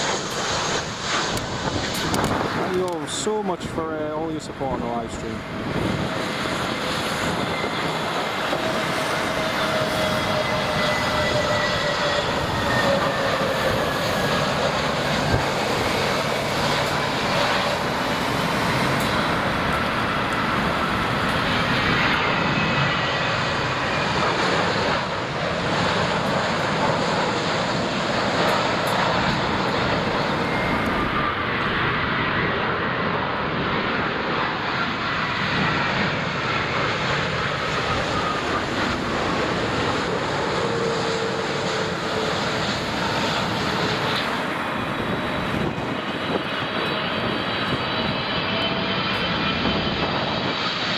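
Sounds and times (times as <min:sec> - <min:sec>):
jet engines passing: 0:00.0 - 0:50.9.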